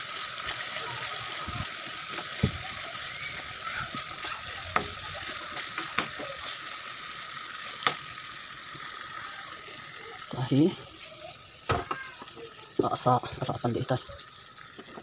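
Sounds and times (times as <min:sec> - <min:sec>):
chicken sizzling in a wok: 0:00.0 - 0:15.0.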